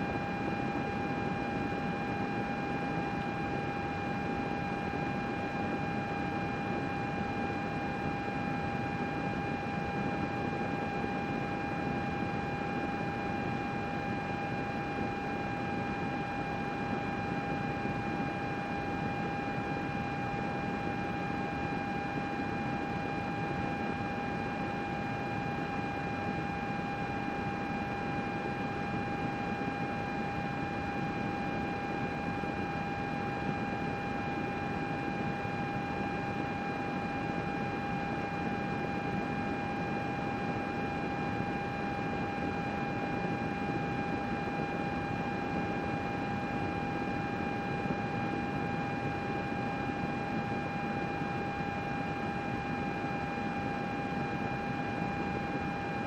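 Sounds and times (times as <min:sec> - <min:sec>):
constant fan whine: 0:00.0 - 0:56.0.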